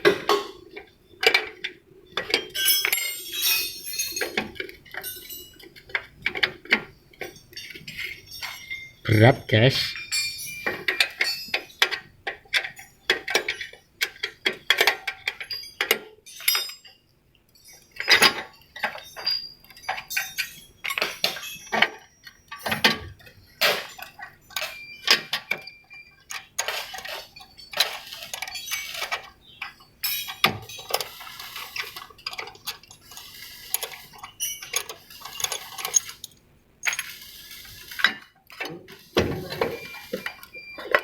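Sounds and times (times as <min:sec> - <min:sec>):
metal tools clanking on metal: 0:00.0 - 0:41.0.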